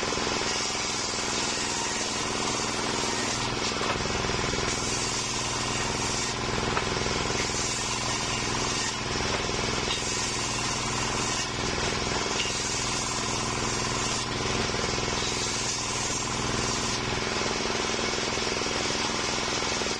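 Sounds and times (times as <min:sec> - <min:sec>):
circular saw cutting wood: 0:00.0 - 0:19.9.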